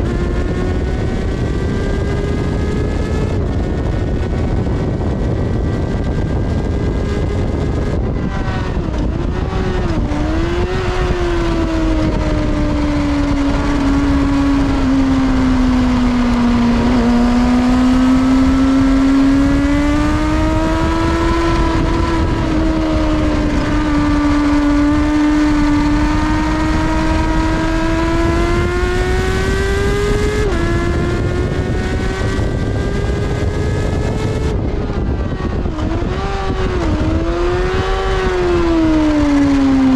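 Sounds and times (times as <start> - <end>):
motorcycle engine at high revs: 0.0 - 39.9
wind rushing: 0.0 - 39.9.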